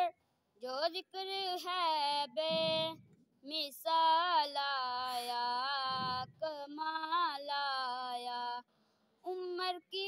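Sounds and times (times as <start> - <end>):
boy singing unaccompanied: 0.0 - 8.6, 9.2 - 10.0.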